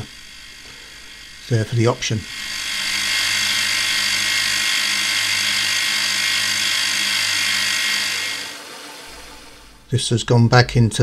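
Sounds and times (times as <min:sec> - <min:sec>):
milling machine whine: 0:00.0 - 0:10.0
low hum: 0:00.0 - 0:10.3.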